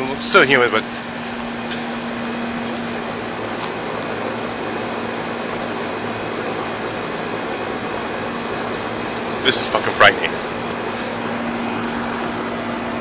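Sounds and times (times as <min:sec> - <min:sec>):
condenser fan whirring: 0:00.0 - 0:13.0
low hum: 0:00.0 - 0:13.0.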